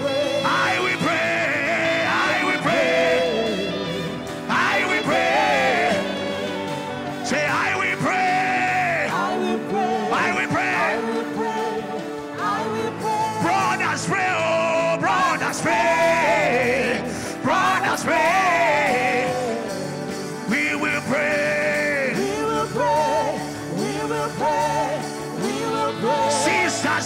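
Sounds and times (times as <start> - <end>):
person singing: 0.0 - 27.0
sustained instrumental chords: 0.0 - 27.0.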